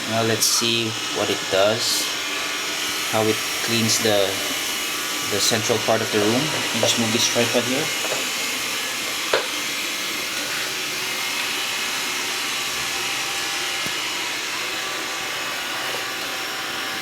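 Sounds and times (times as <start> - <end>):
robot vacuum whirring: 0.0 - 17.0.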